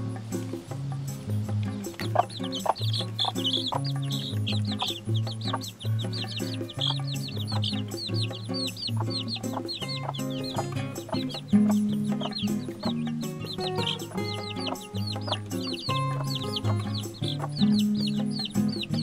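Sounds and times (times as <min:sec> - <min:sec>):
baby chicks peeping: 0:00.0 - 0:19.0
background music: 0:00.0 - 0:19.0
hen clucking: 0:00.0 - 0:19.0.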